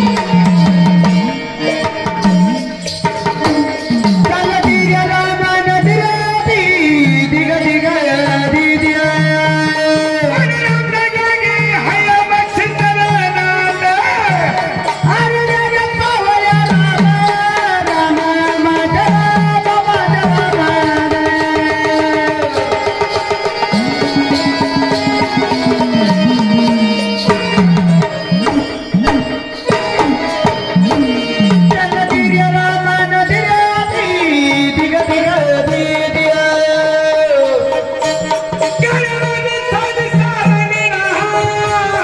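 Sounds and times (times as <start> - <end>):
folk melody line: 0.0 - 42.0
hand drums: 0.0 - 42.0.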